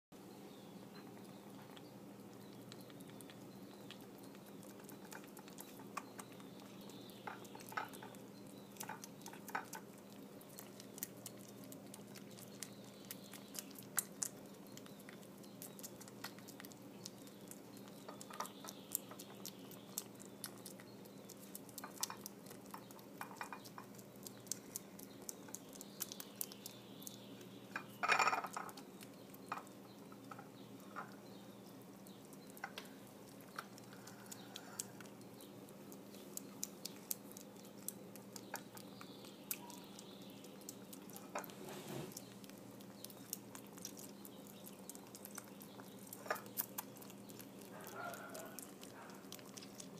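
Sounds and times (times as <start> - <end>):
low steady hum: 0.2 - 49.9
kitten chewing and licking: 0.4 - 49.9.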